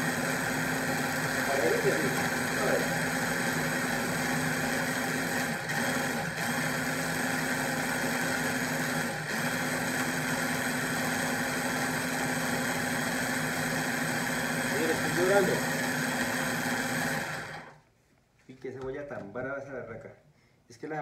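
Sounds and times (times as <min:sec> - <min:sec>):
food processor motor chopping: 0:00.0 - 0:17.8.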